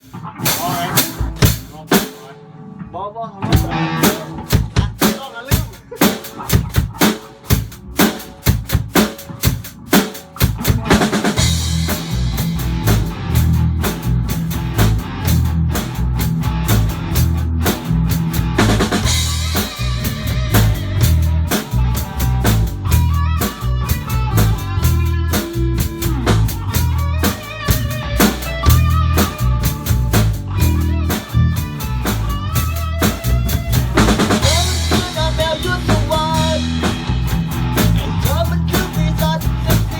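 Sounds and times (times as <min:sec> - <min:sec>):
drum kit hits: 0:00.0 - 0:02.4, 0:03.5 - 0:39.9
band playing: 0:00.0 - 0:02.5, 0:03.5 - 0:39.9.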